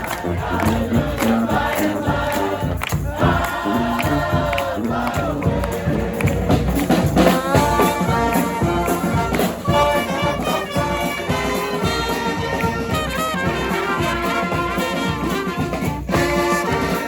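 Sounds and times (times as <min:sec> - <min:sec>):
street brass band playing: 0:00.0 - 0:17.0.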